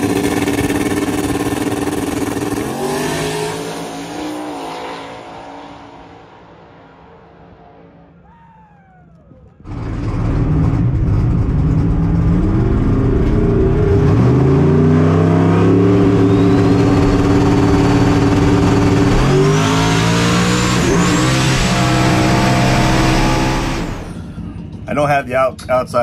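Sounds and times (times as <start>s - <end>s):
rising whine: 0.0s - 24.9s
race car engine roaring: 0.0s - 25.0s.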